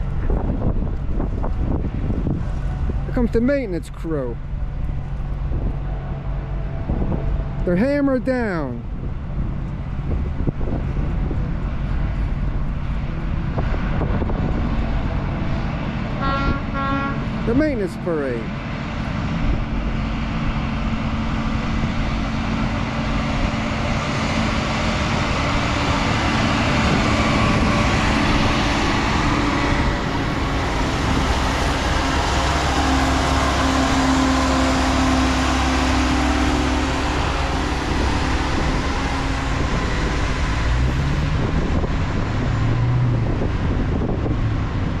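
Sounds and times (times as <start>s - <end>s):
wheels rattling on rails: 0.0s - 7.9s, 8.8s - 45.0s
diesel engine drone: 0.0s - 45.0s.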